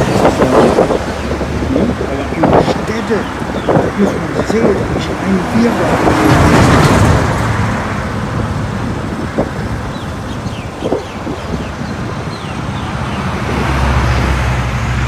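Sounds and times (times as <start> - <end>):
road traffic rushing: 0.0 - 15.0
vehicle engine: 0.0 - 15.0.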